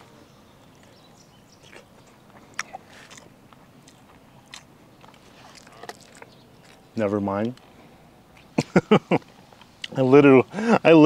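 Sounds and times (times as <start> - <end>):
man chewing food: 0.0 - 10.0.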